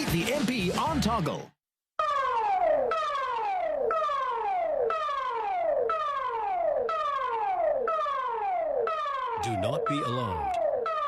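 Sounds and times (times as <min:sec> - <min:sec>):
siren tone dropping in pitch: 0:02.0 - 0:11.0.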